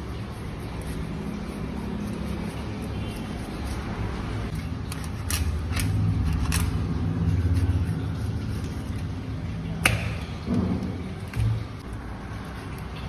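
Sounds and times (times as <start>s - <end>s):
low steady rumble: 0.0s - 12.8s.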